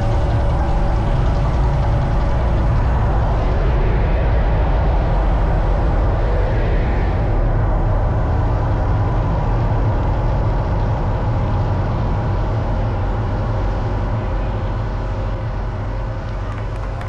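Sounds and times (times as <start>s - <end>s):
deep steady rumble: 0.0s - 17.0s.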